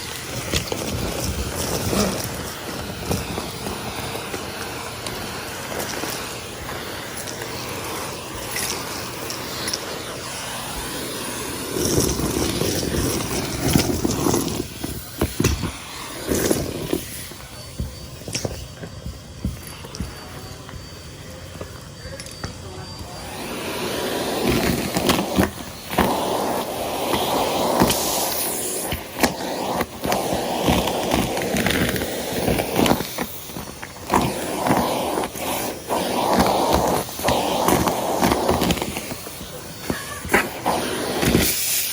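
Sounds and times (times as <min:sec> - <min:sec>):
debris rattling up hose: 0:00.0 - 0:20.1, 0:21.7 - 0:41.9
vacuum cleaner running: 0:00.0 - 0:41.9.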